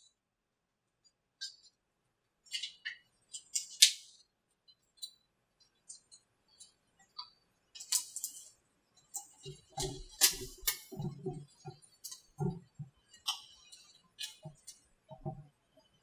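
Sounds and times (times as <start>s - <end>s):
sharp clicks and cracks: 2.4s - 16.0s.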